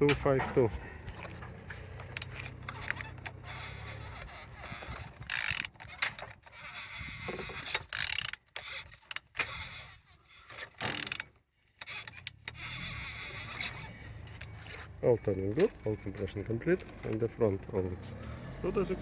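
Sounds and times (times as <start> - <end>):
engine turned over by hand: 0.0 - 19.0.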